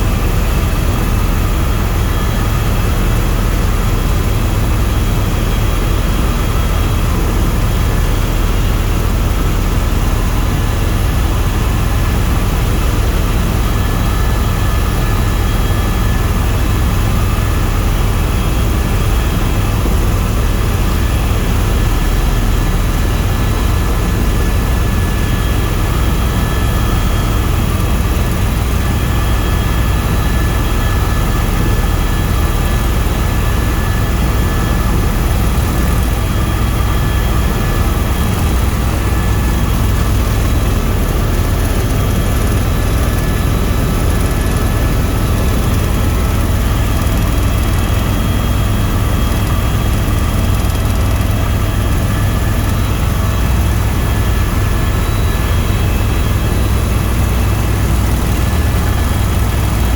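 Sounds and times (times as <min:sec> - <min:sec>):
helicopter engine and rotors rumbling: 0:00.0 - 0:59.9.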